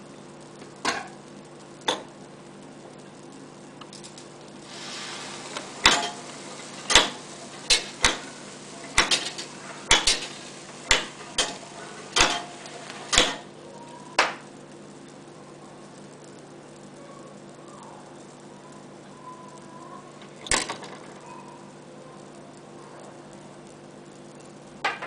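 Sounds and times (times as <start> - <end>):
soft hiss: 0.0 - 20.6.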